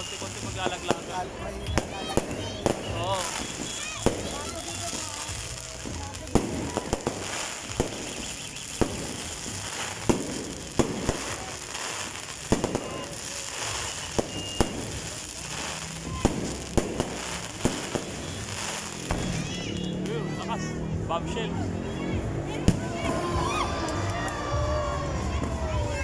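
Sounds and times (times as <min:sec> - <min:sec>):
fireworks bursting: 0:00.0 - 0:20.8, 0:22.6 - 0:26.0.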